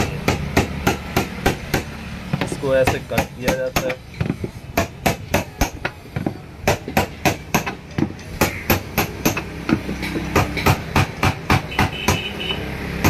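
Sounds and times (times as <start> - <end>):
hammer striking chisel on metal: 0.0 - 12.4.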